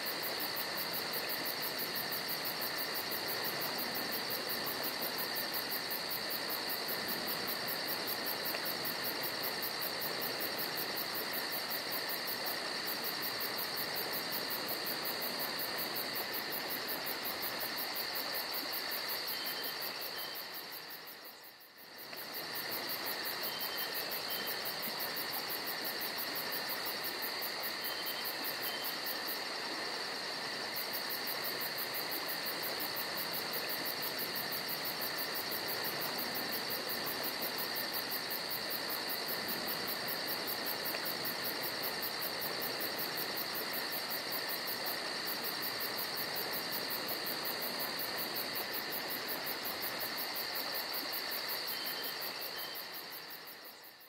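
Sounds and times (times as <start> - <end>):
shrill insect chorus: 0.0 - 54.0.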